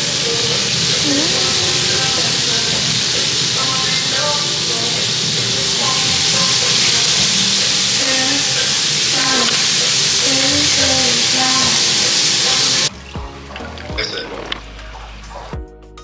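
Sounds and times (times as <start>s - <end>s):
food sizzling: 0.0s - 15.6s.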